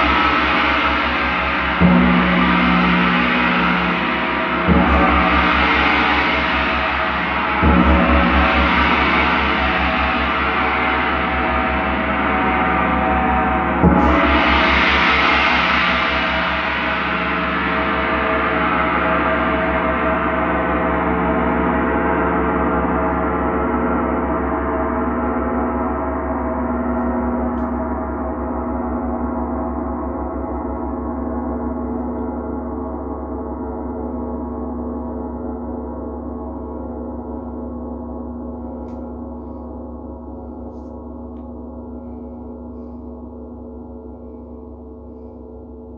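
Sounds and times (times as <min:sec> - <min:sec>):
gong ringing: 0:00.0 - 0:45.9.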